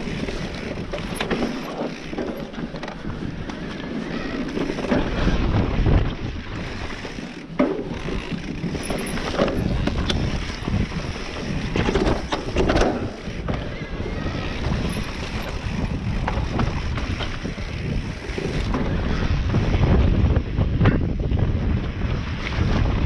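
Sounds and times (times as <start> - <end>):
bike knocking and rattling: 0.0 - 23.0
wind buffeting microphone: 0.0 - 23.0.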